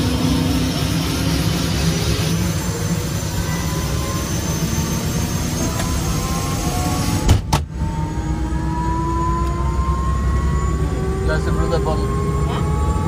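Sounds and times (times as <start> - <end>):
helicopter turbine starting up: 0.0 - 13.0.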